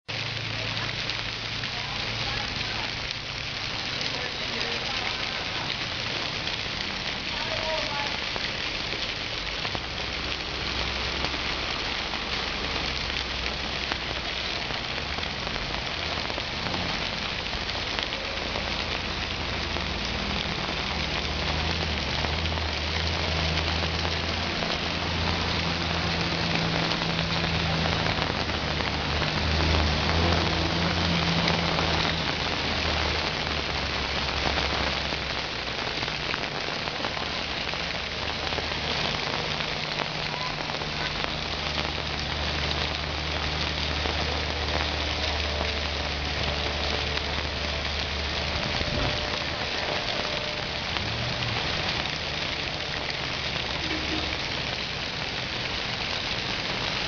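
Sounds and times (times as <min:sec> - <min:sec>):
heavy rain falling: 0:00.0 - 0:57.0
vehicle engines through floodwater: 0:00.0 - 0:57.0.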